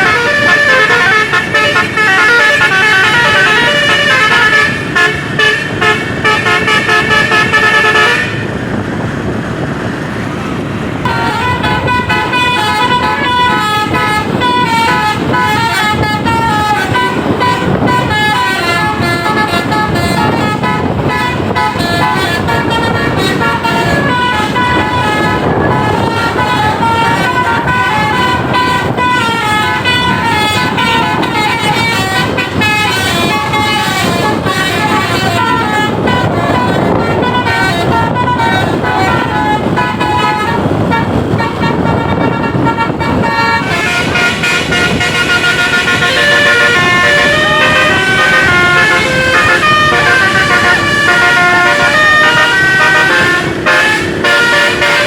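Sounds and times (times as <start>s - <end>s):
musical air horn playing a tune: 0.0s - 8.6s, 11.0s - 55.0s.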